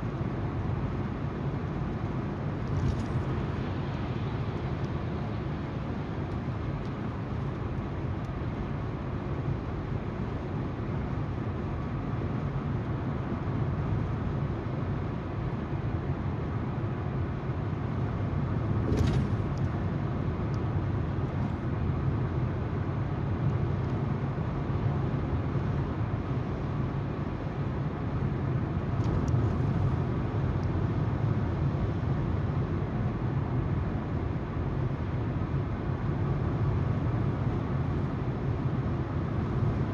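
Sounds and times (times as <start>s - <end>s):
tyres on the road: 0.0s - 39.9s.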